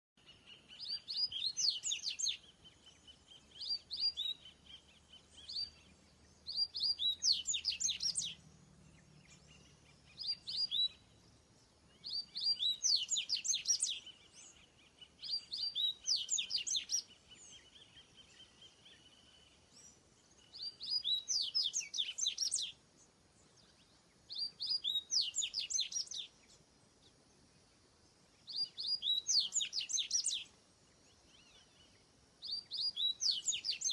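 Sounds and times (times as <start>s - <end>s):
songbird chirping: 0.2s - 33.9s.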